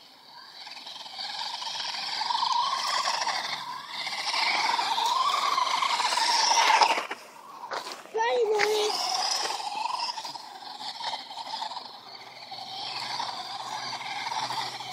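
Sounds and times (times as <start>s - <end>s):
toy truck motor whining: 0.0s - 14.9s.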